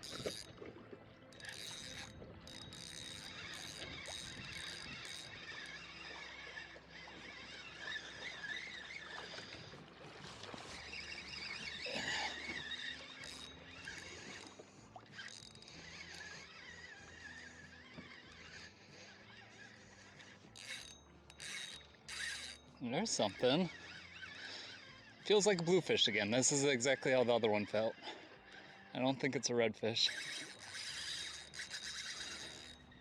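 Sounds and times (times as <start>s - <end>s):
electric motor humming: 1.4s - 28.9s, 30.1s - 33.0s.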